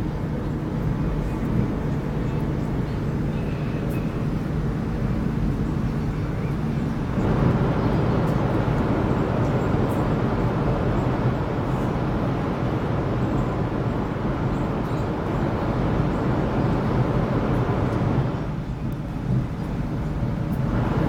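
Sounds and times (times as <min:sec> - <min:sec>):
high-speed train rumble inside cabin: 0:00.0 - 0:21.0.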